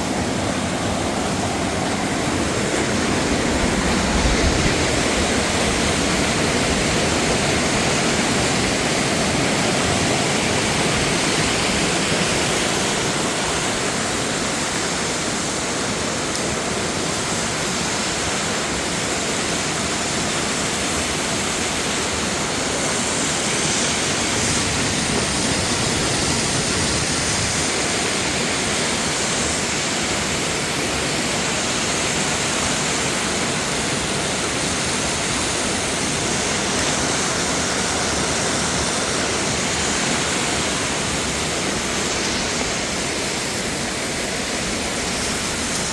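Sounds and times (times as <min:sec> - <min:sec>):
water rushing over rocks: 0:00.0 - 0:45.9.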